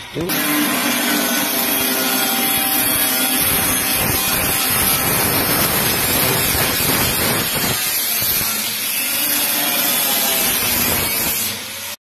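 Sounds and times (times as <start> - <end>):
power tool cutting metal: 0.0 - 12.0.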